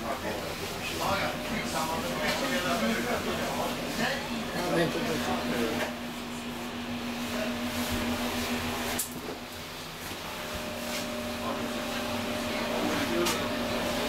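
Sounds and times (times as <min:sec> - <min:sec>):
electric train equipment humming: 0:00.0 - 0:14.0.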